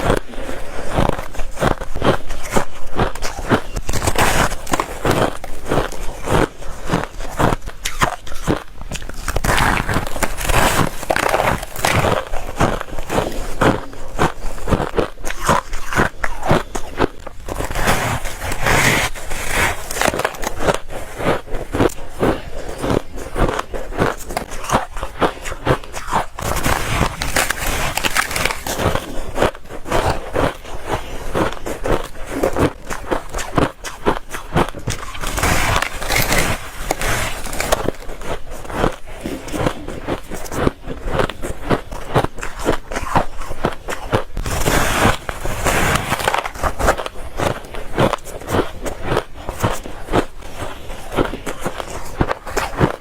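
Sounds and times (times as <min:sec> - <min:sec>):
frost crunching being chewed: 0:00.0 - 0:53.0.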